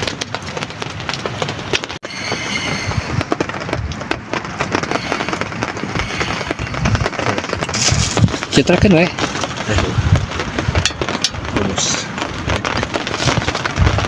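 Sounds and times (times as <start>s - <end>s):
heavy rain pattering: 0.0s - 14.0s.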